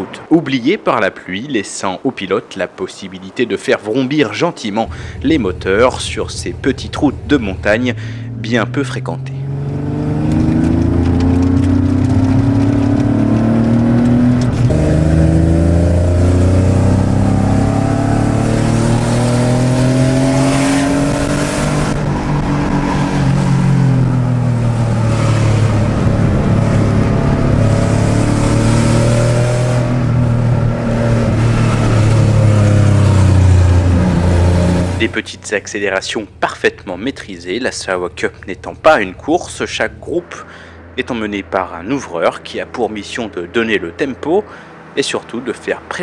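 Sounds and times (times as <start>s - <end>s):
sports car engine accelerating: 4.9s - 46.0s.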